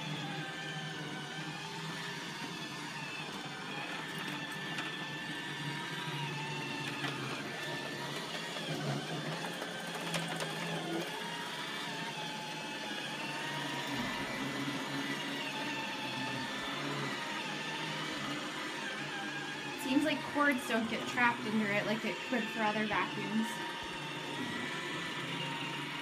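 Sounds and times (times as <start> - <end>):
robot vacuum motor whirring: 0.0 - 26.0.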